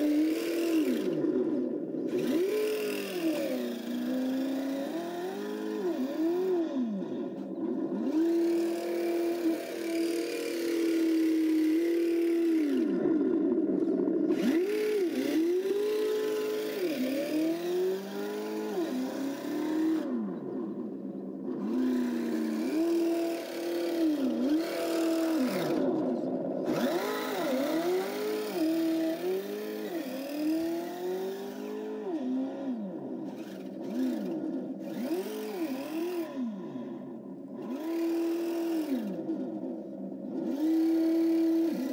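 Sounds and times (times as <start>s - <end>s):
simulated engine sound: 0.0s - 41.9s.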